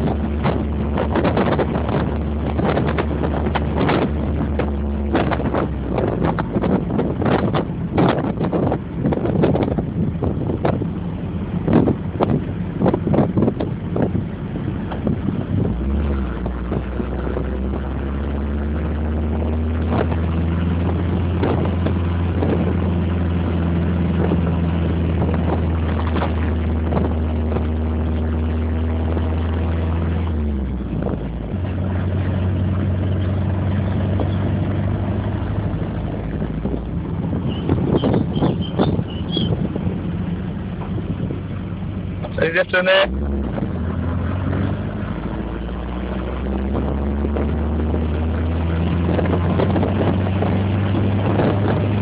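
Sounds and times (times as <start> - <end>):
car engine running: 0.0 - 52.0
knocks and rattles from rough road: 0.0 - 52.0
road noise: 0.0 - 52.0
wind noise: 0.0 - 52.0.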